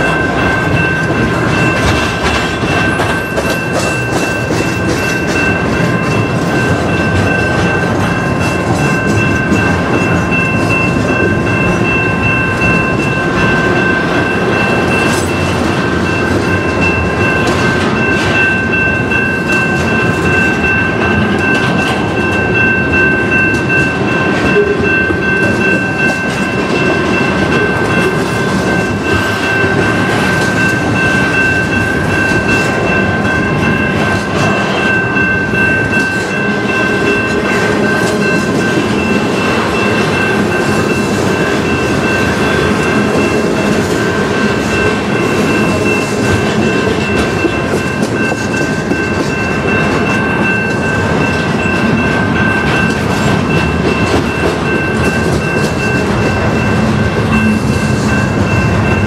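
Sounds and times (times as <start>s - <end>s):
freight train rumbling past: 0.0s - 59.0s
steady high tones: 0.0s - 59.0s.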